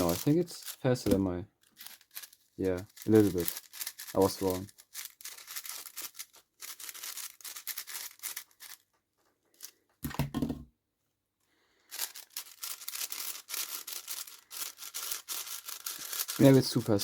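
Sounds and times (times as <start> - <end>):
puzzle cube clicking and scraping: 0.0 - 9.9, 11.8 - 17.0.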